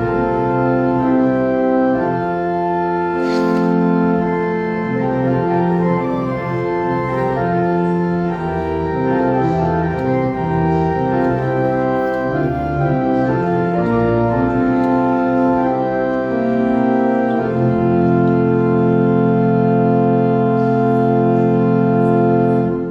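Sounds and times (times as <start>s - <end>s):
organ playing sustained chords: 0.0s - 22.9s.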